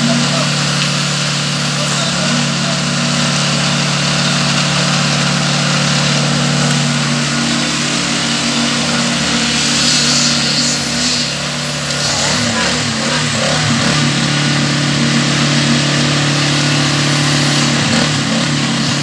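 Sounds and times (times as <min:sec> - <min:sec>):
concrete mixer engine running: 0:00.0 - 0:19.0.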